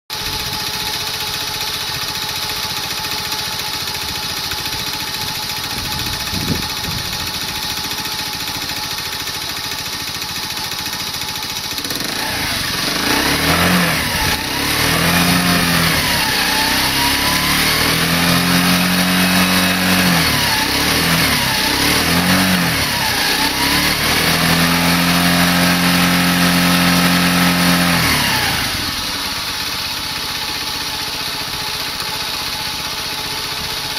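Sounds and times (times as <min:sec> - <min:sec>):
small motorcycle engine idling and revving: 0:00.1 - 0:33.9.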